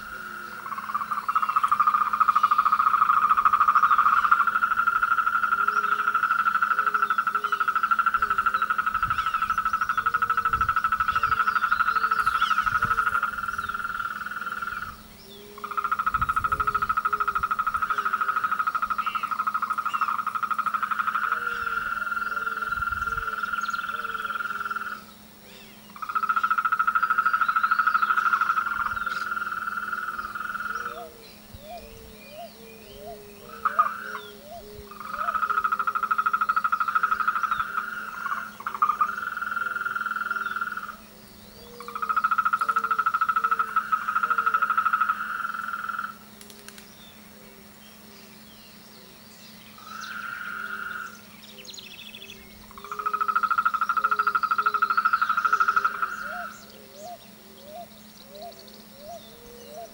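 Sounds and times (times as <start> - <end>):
frogs repeating low short note: 0.0 - 46.3, 49.8 - 59.9
frogs trilling: 0.0 - 59.9.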